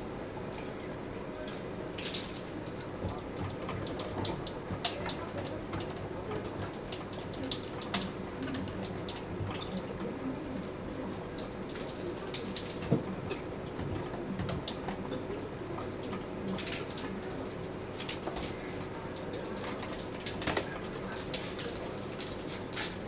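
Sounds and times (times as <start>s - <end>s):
steady hiss and hum: 0.0s - 23.0s.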